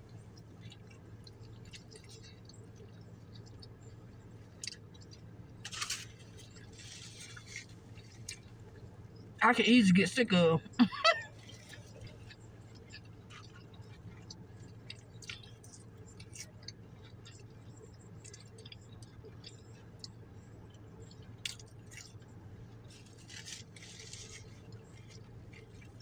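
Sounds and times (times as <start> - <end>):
faint low hum: 0.0 - 26.0
person chewing food: 0.1 - 9.3, 11.2 - 26.0.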